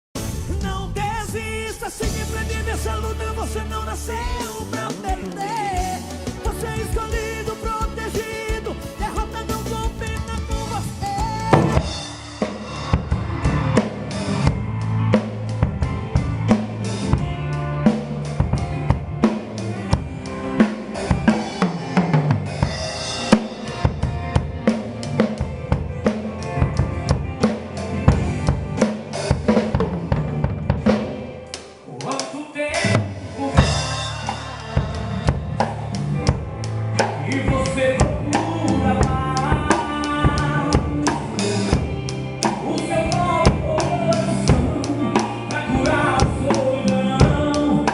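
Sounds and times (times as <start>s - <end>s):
band playing gospel music: 0.1s - 47.9s
drum kit beat: 0.1s - 47.9s.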